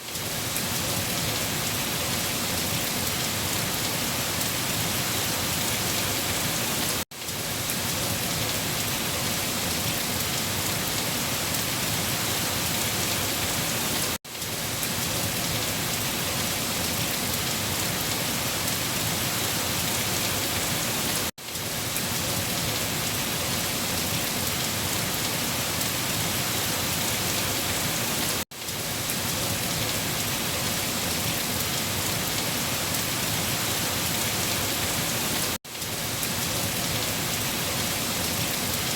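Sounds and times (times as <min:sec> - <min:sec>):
heavy rain falling on leaves: 0:00.0 - 0:38.9.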